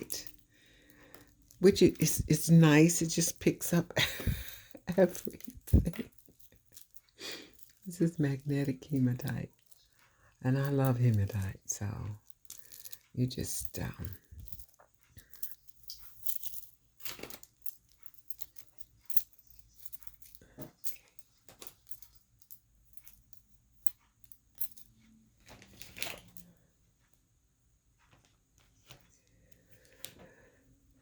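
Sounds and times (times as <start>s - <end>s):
beads clicking and clattering: 0.0s - 24.9s.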